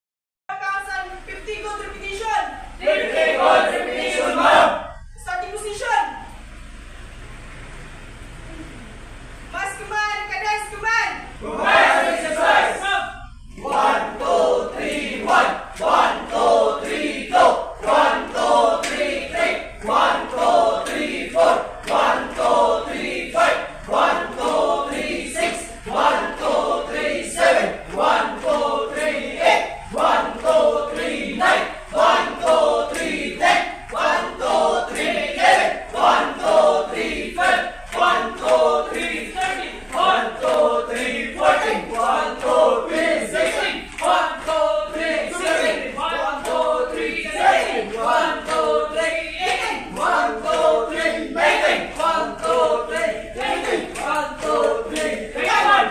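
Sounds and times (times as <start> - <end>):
group singing: 2.6 - 5.1, 11.3 - 55.9.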